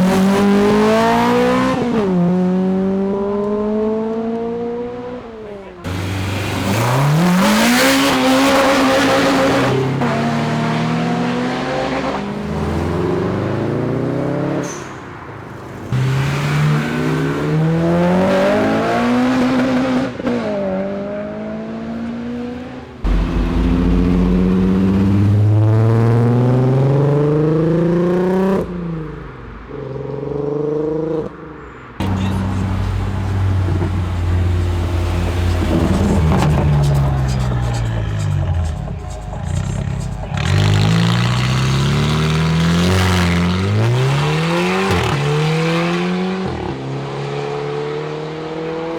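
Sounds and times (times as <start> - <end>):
cars accelerating hard: 0.0 - 48.9.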